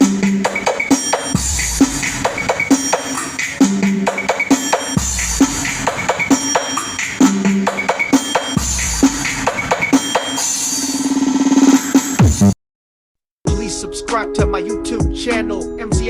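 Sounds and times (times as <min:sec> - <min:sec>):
music with drum beat and bass: 0:00.0 - 0:12.6, 0:13.5 - 0:16.0.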